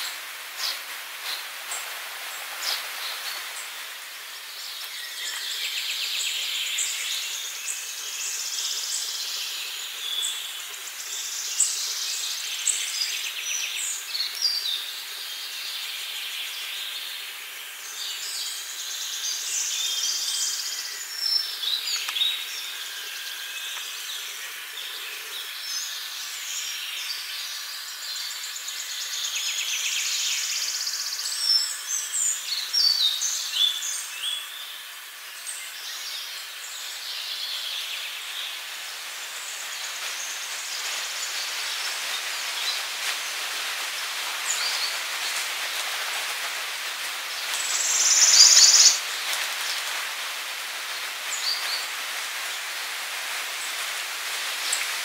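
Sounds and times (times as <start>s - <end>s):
songbirds singing and chirping: 0.0s - 52.8s
faint steady hiss: 0.0s - 55.0s.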